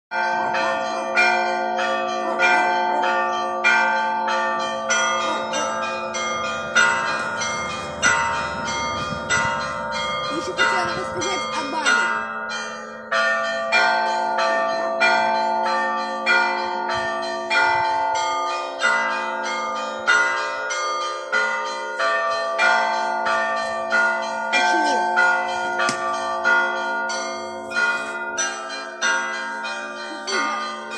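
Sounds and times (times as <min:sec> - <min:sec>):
large bells humming: 0:00.1 - 0:30.9
small church bells striking: 0:00.1 - 0:30.9.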